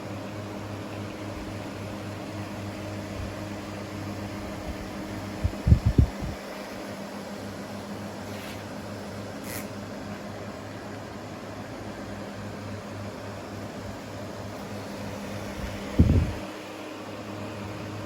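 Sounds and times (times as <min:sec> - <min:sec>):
desk fan whirring: 0:00.0 - 0:18.0.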